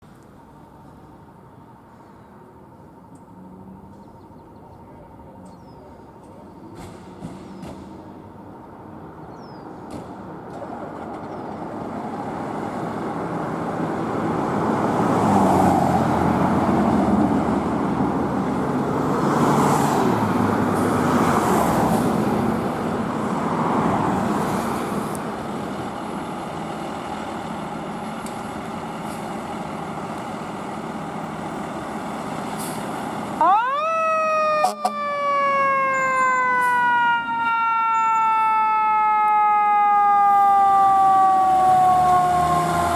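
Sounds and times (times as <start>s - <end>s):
fire engine driving: 0.0s - 42.9s
road noise: 0.0s - 42.9s.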